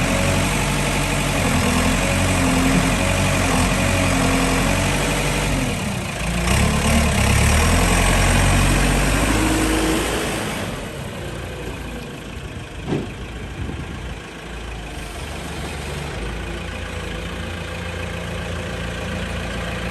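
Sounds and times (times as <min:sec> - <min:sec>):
construction equipment engine running: 0:00.0 - 0:19.9.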